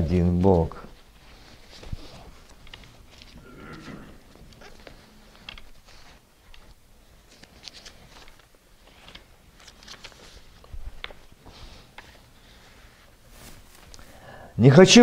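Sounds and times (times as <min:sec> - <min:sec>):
paper pages rustling: 0:00.0 - 0:14.2.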